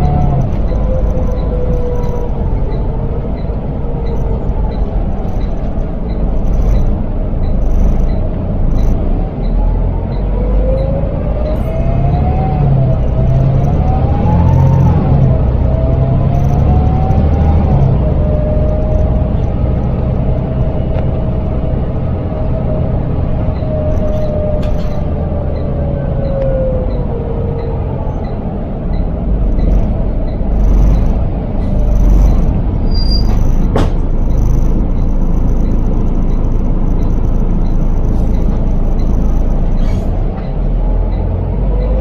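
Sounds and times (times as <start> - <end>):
light regular ticking: 0.0 - 27.0, 27.6 - 42.0
bus diesel engine rumbling: 0.0 - 42.0
drivetrain whine: 0.0 - 42.0.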